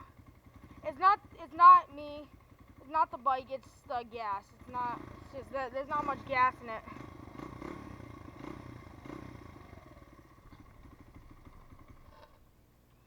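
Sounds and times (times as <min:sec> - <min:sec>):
small engine idling roughly: 0:00.0 - 0:13.0.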